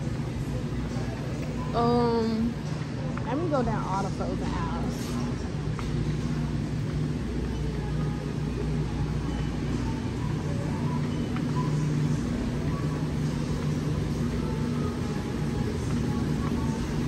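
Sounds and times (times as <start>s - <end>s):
level humming tones: 0.0s - 17.0s
low hum and rumble: 0.0s - 17.0s.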